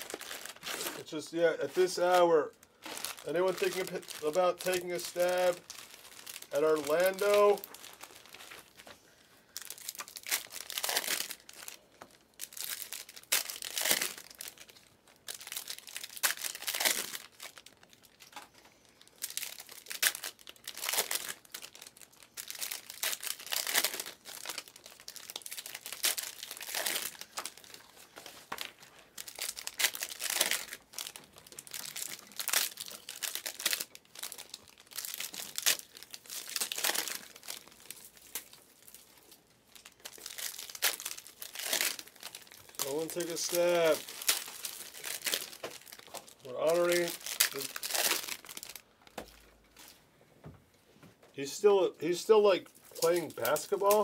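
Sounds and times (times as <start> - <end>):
foil wrappers crinkling and tearing: 0.0 - 50.0, 52.1 - 54.0.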